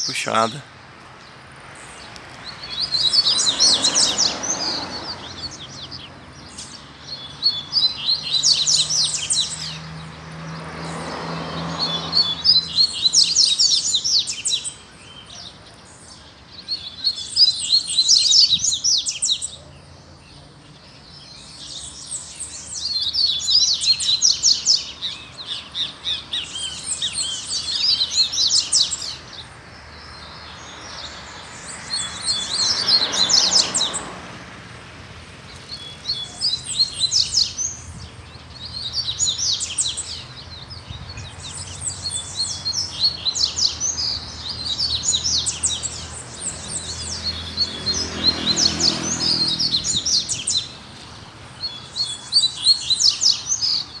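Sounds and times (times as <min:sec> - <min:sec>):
birds singing fast high phrases: 0:00.0 - 0:34.2, 0:35.5 - 0:54.0.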